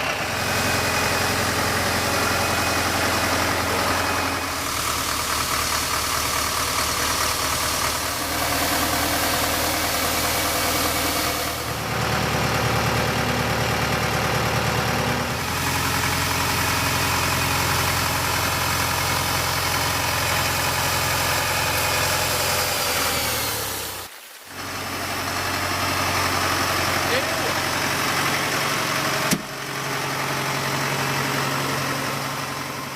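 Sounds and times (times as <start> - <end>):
farm machinery engine running: 0.0 - 32.9.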